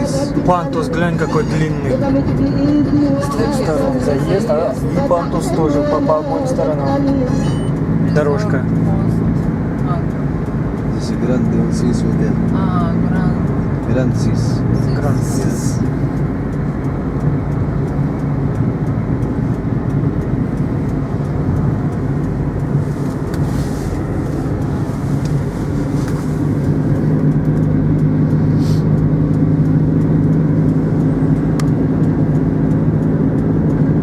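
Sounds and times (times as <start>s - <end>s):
car road noise: 0.0s - 34.0s
low engine note: 0.0s - 34.0s.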